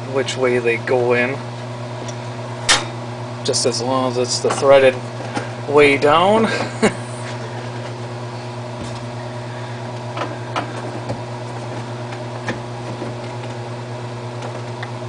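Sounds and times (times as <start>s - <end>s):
air conditioner fan humming: 0.0s - 15.0s.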